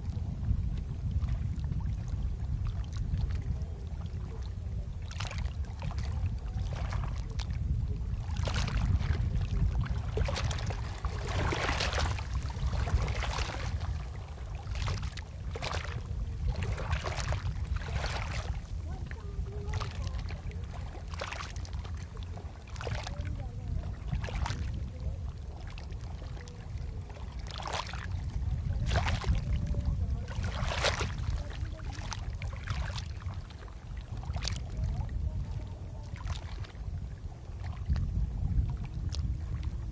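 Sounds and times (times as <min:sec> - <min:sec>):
sea water splashing and lapping: 0:00.0 - 0:39.9.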